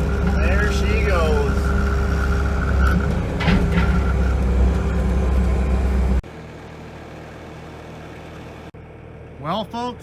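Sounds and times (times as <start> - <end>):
engine hum with high whine: 0.0 - 10.0.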